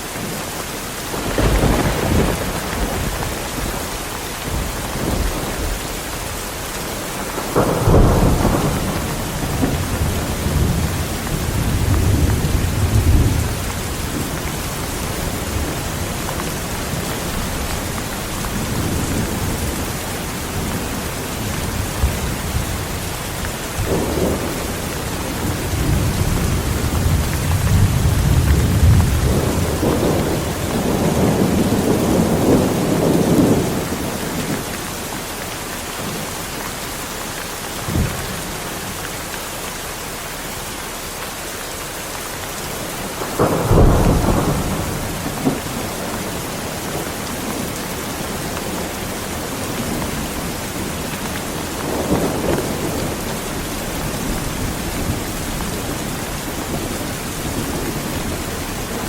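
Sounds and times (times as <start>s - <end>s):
heavy rain: 0.0s - 59.0s
thunder rumbling: 1.1s - 35.0s, 42.7s - 59.0s.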